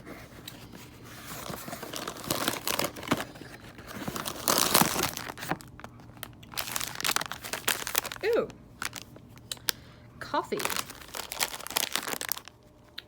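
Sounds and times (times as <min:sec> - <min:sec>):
packaging crinkling and rustling: 0:00.0 - 0:09.8, 0:10.4 - 0:13.0.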